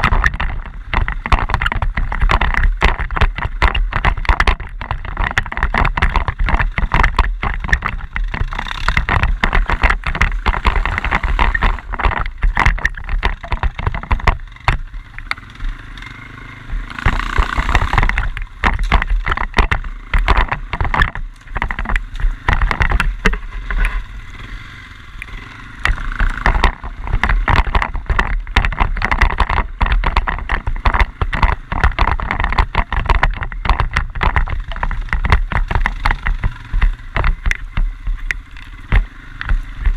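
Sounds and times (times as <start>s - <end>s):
knocks and jolts over rough ground: 0.0s - 39.9s
quad bike rumbling: 0.0s - 39.9s.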